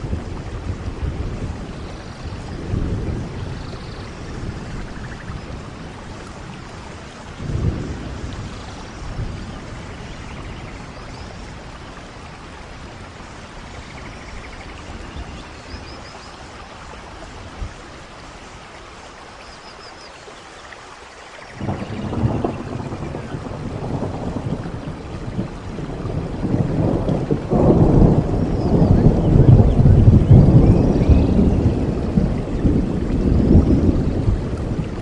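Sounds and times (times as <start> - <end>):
thunder rolling: 0.0 - 16.0, 21.6 - 35.0
steady rainfall: 0.0 - 35.0.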